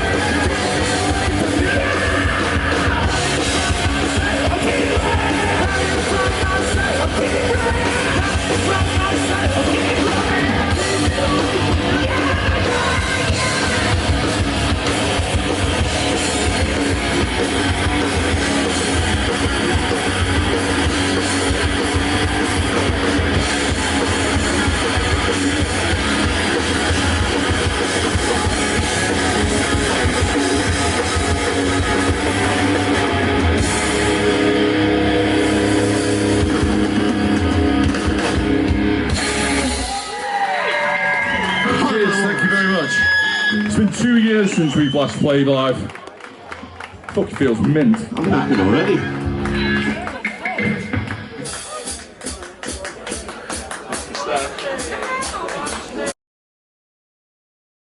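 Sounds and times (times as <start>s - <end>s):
heavy rock band playing: 0.0s - 45.4s, 47.2s - 56.1s.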